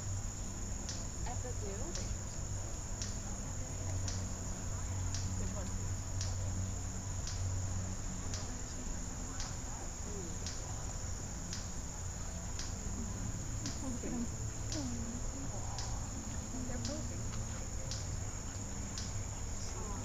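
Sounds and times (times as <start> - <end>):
insects chirring: 0.0 - 20.0
low steady hum: 0.0 - 20.0.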